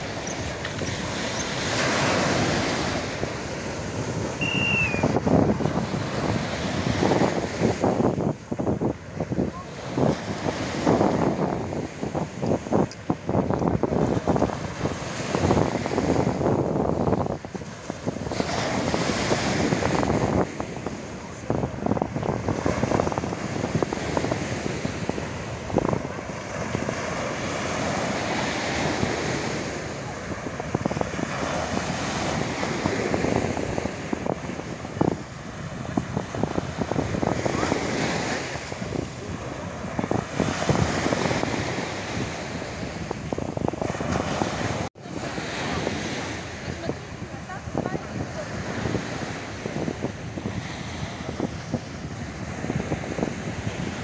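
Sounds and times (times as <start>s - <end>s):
sea surf breaking: 0.0s - 54.0s
wind buffeting microphone: 0.0s - 54.0s.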